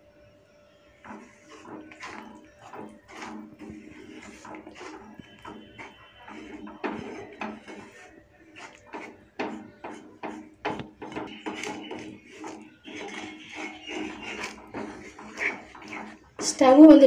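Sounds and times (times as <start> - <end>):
spatula scraping a pan: 0.9 - 17.0.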